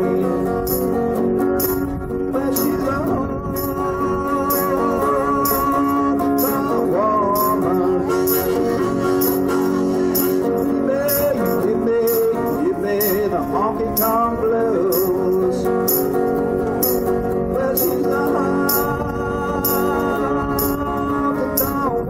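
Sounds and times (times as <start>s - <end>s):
electric guitar country music: 0.0s - 22.0s
man singing: 0.0s - 22.0s
jingling beat: 0.4s - 22.0s.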